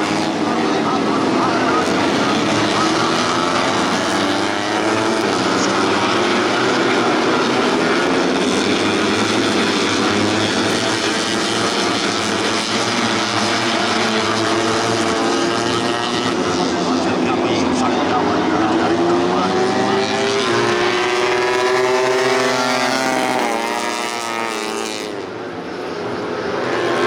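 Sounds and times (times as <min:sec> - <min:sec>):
motorcycle engines racing: 0:00.0 - 0:27.0.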